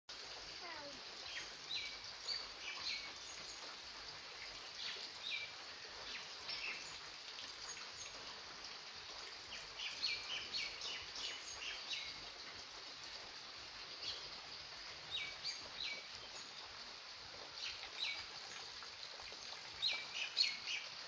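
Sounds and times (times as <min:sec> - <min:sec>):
faint steady hiss: 0:00.1 - 0:21.0.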